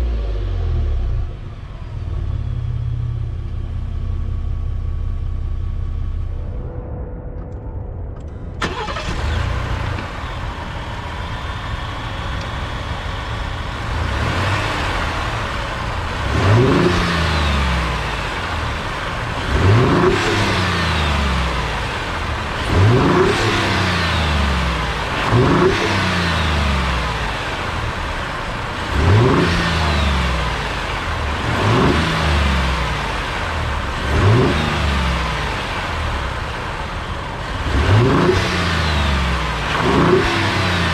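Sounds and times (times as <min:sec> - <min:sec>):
engine revving: 0:00.0 - 0:06.4, 0:08.6 - 0:40.9
truck engine starting and idling: 0:00.0 - 0:06.6, 0:08.2 - 0:40.9.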